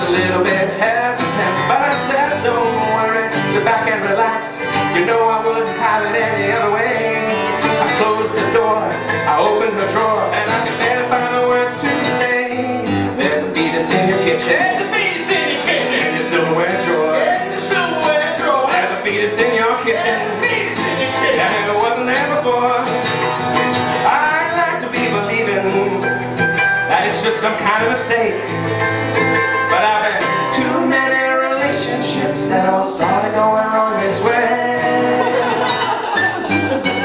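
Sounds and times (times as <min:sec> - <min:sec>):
man singing: 0:00.0 - 0:23.3, 0:23.9 - 0:26.2, 0:26.8 - 0:28.6, 0:29.2 - 0:37.0
mandolin picking: 0:00.0 - 0:31.1, 0:33.8 - 0:37.0
acoustic guitar strumming: 0:00.0 - 0:37.0.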